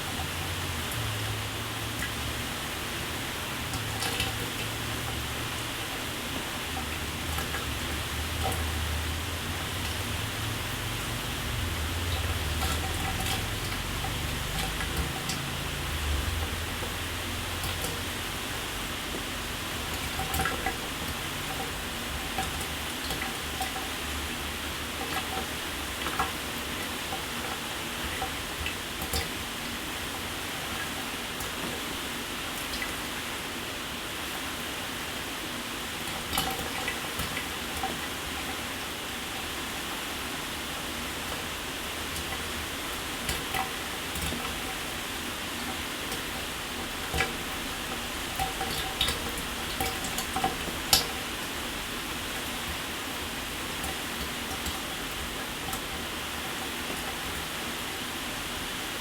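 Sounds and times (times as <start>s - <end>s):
water drips and splashes: 0.0s - 33.6s, 35.8s - 59.0s.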